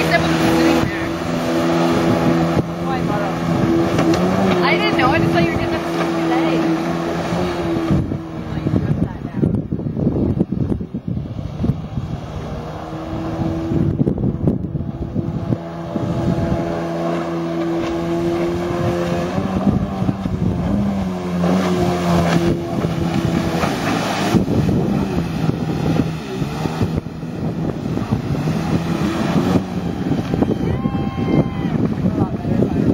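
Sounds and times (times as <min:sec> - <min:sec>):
jet ski engine running: 0:00.0 - 0:32.9
wind buffeting microphone: 0:00.0 - 0:32.9.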